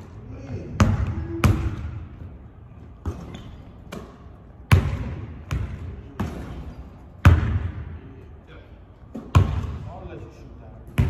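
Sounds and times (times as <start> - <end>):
basketball bouncing in gym: 0.0 - 8.1, 9.1 - 10.0.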